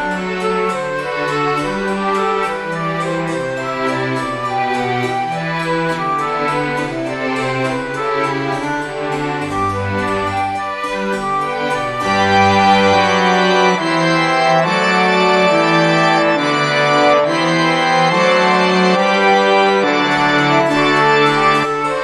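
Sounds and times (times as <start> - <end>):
organ chords: 0.0 - 22.0.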